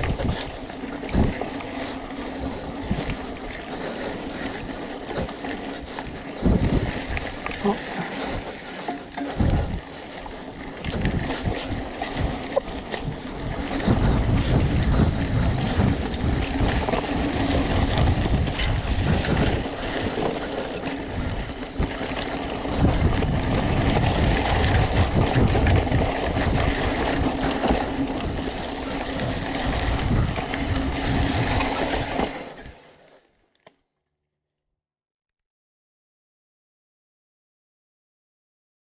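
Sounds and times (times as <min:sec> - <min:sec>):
bike rattling and knocking: 0:00.0 - 0:32.8
wind buffeting microphone: 0:00.0 - 0:32.8
bike tyre rumble: 0:00.0 - 0:33.3.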